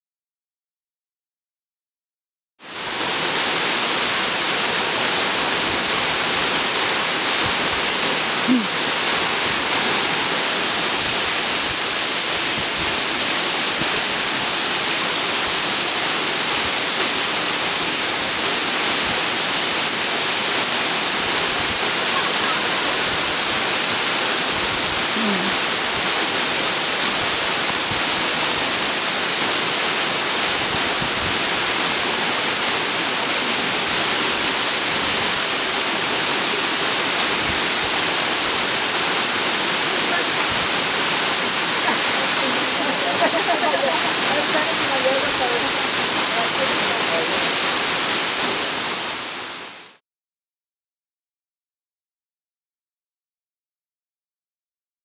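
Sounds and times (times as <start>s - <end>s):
waterfall rushing: 2.7s - 50.0s.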